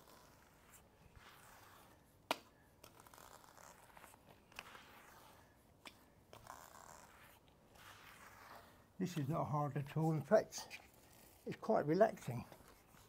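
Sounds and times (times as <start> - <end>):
grout float scraping tiles: 0.0 - 2.1, 2.8 - 13.0.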